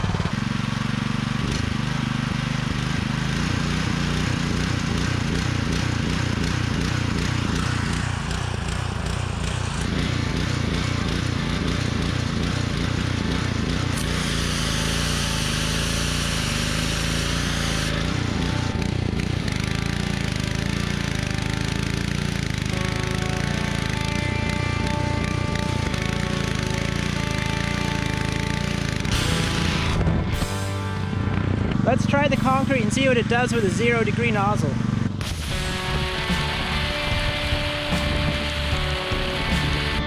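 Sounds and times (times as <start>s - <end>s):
pressure washer engine surging: 0.0s - 40.0s.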